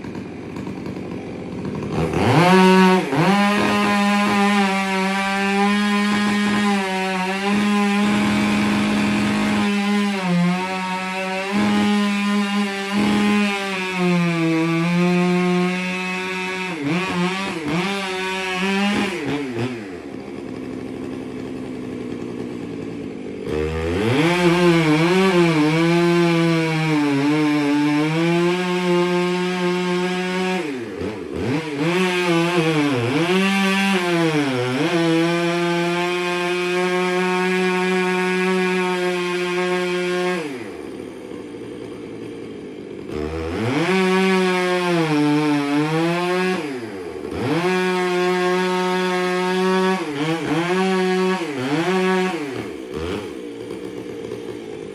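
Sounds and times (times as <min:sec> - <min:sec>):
chainsaw cutting tree trunk: 0:00.0 - 0:54.9.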